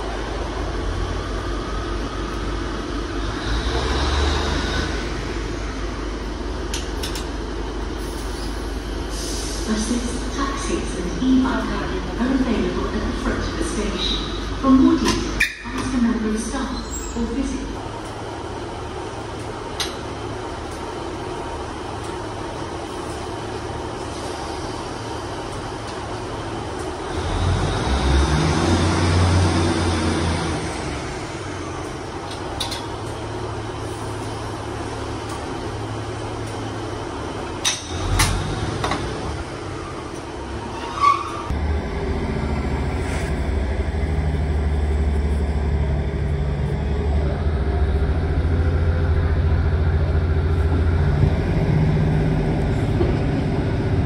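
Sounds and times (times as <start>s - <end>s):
diesel train engine running: 0.0s - 54.0s.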